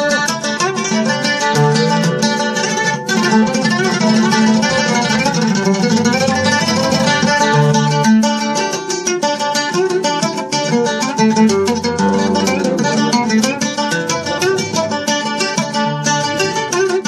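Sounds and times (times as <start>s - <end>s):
plucked string instrument melody: 0.0s - 17.0s.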